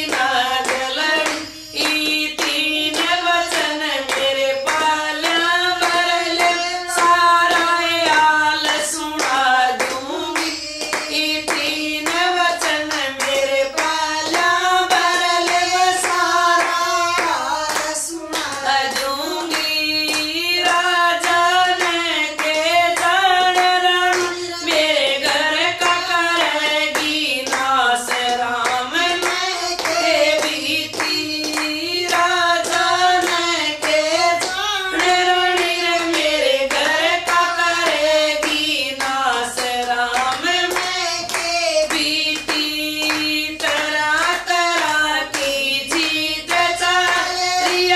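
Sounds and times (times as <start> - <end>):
hand-claps: 0.0 - 47.9
women singing devotional song: 0.0 - 47.9.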